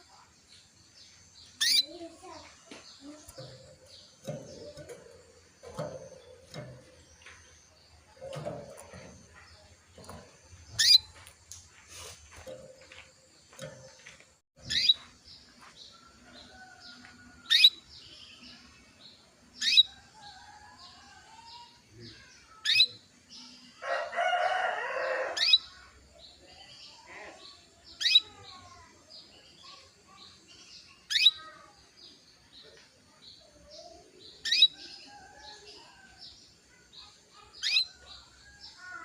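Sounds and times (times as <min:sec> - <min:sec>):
canary chirping: 0:01.0 - 0:15.2, 0:15.9 - 0:20.8, 0:22.2 - 0:23.5, 0:24.2 - 0:28.8, 0:29.7 - 0:31.6, 0:33.8 - 0:38.7.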